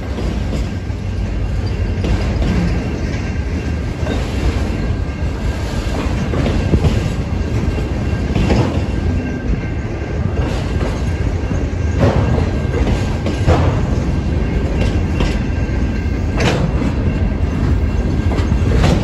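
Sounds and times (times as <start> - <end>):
train wheels rumbling on rail: 0.0 - 19.0
wheels clacking over rail joints: 0.0 - 19.0.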